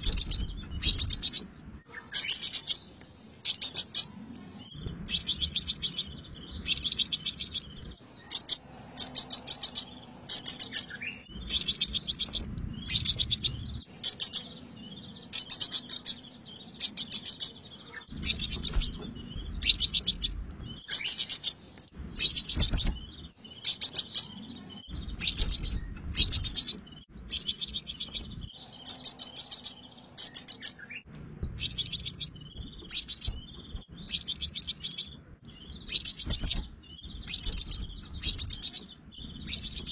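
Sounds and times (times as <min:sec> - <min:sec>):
high-pitched bird chipping trills: 0:00.0 - 0:39.9.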